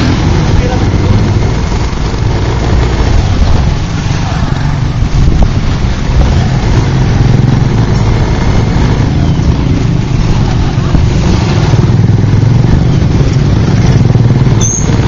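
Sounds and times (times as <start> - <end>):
motorbike engines rumbling in traffic: 0.0 - 15.0.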